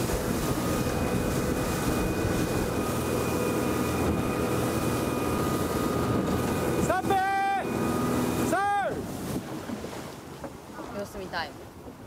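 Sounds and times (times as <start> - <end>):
boat engine drone: 0.0 - 12.0
hull rushing through water: 0.0 - 12.0.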